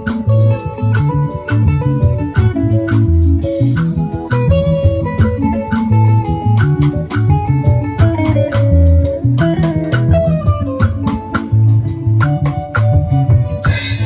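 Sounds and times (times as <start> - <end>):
bass guitar line: 0.0 - 14.0
guitar picking quick notes: 0.0 - 14.0
steady drum beat: 0.0 - 14.0.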